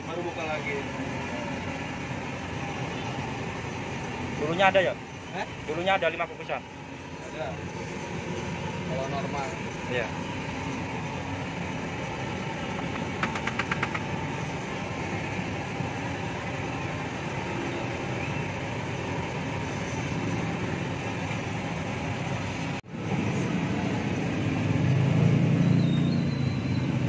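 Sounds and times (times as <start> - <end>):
engine-like drone: 0.0 - 27.0.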